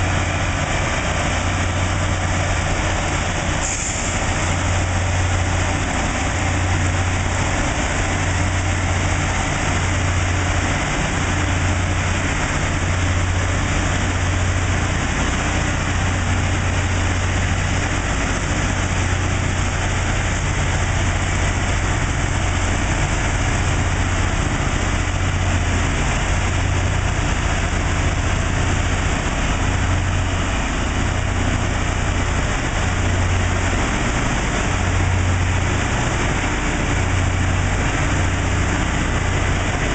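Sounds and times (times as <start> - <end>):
grinding stones hissing on rail: 0.0 - 39.9
low engine drone: 0.0 - 39.9.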